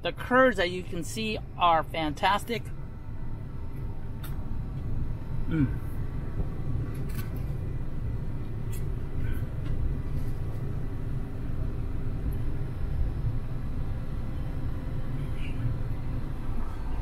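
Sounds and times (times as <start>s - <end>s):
air conditioning running: 0.0s - 17.0s
car engine idling: 0.0s - 17.0s.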